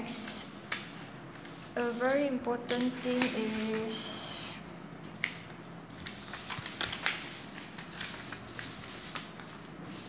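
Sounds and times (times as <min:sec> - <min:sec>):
paper sheets rustling: 0:00.5 - 0:10.0.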